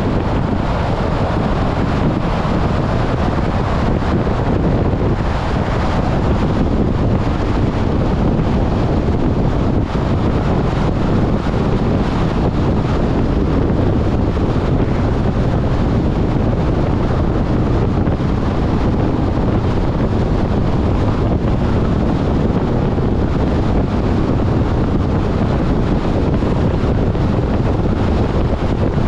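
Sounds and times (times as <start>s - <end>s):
car wind and road noise: 0.0s - 29.0s.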